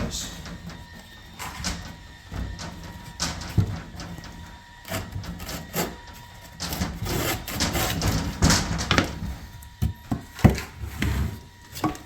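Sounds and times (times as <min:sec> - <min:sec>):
wood scraping and rubbing: 0:00.0 - 0:12.0.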